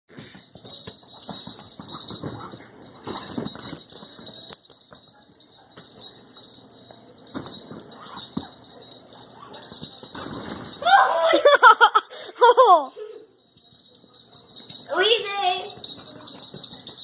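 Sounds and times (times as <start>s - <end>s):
small bell jingling: 0.1s - 17.0s.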